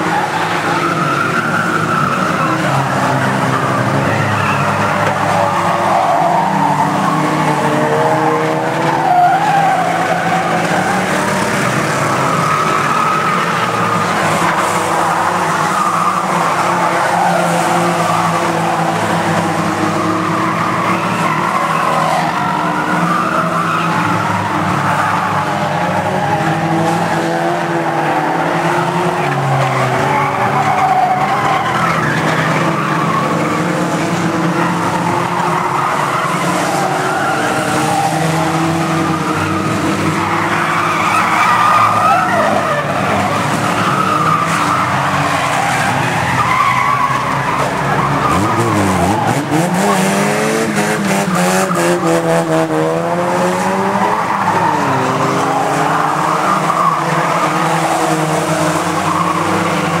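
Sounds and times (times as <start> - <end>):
stock car engines revving: 0.0 - 60.0.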